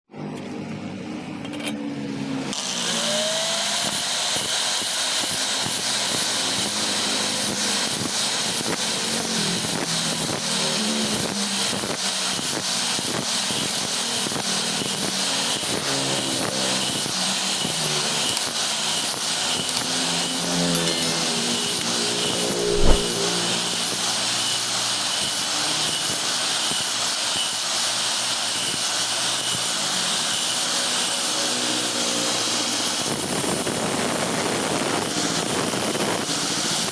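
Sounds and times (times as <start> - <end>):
flour mill droning with hiss: 2.6 - 22.6, 23.2 - 36.9.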